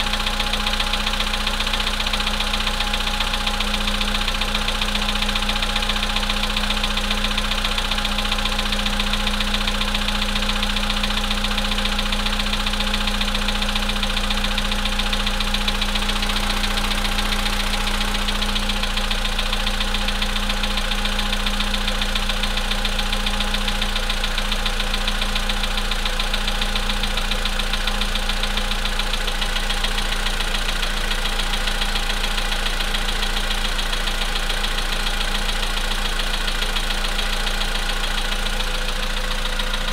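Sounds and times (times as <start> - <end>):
car engine idling: 0.0 - 39.9
engine knocking: 0.0 - 39.9.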